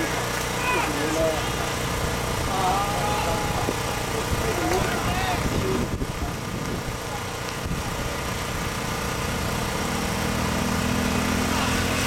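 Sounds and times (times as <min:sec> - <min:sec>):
engine running steadily: 0:00.0 - 0:12.0
outdoor noise: 0:00.0 - 0:12.0
steady hum: 0:00.0 - 0:12.0.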